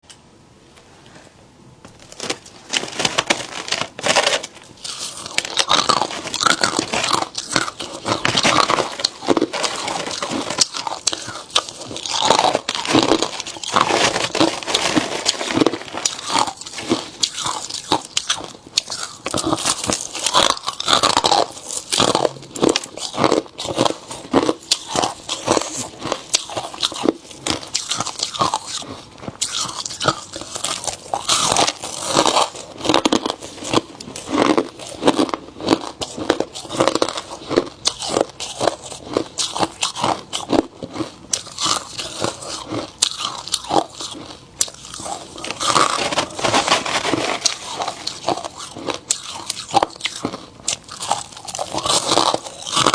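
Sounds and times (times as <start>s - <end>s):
ice being chewed: 2.2s - 52.9s.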